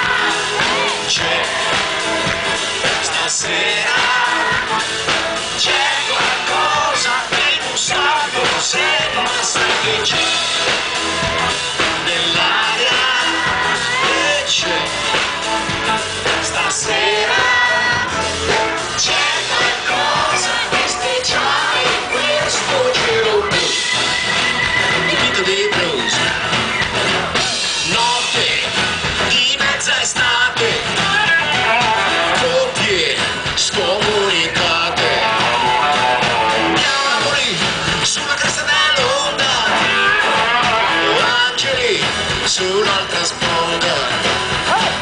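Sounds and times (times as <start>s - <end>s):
man singing lead vocal: 0.0s - 24.2s, 24.8s - 26.6s, 27.4s - 45.0s
live rock band playing: 0.0s - 45.0s.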